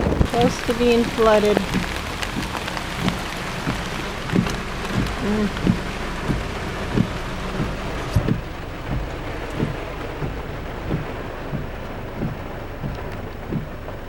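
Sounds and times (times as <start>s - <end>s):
heavy rain pouring: 0.0s - 14.0s
raindrops tapping nearby: 0.0s - 14.0s.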